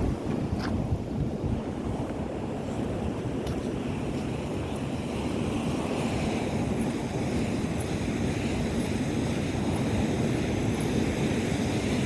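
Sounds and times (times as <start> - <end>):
surf washing on beach: 0.0 - 12.0
wind rumble on microphone: 0.0 - 12.0.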